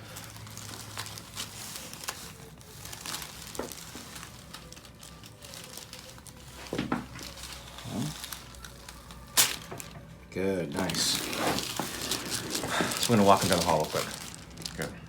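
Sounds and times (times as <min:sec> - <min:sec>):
clothing rustling and crinkling: 0:00.0 - 0:15.0.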